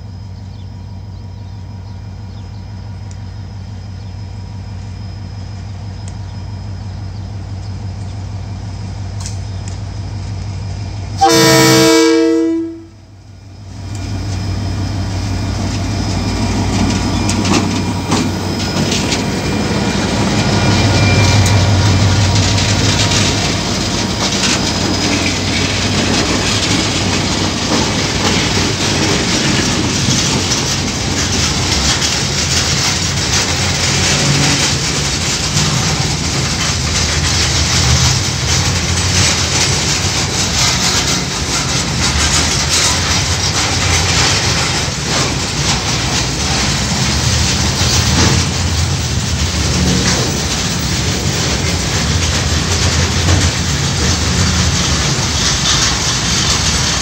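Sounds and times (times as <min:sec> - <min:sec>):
diesel locomotive engines: 0:00.0 - 0:57.0
train wagons rumbling: 0:00.0 - 0:57.0
wheels clacking on rails: 0:00.0 - 0:57.0.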